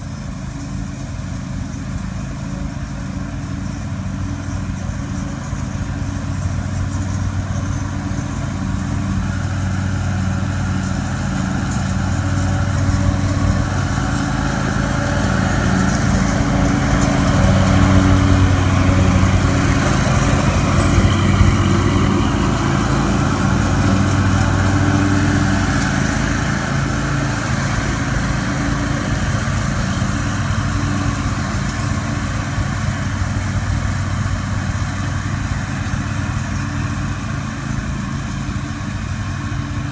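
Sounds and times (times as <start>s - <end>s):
small gasoline engines running: 0.0s - 39.9s.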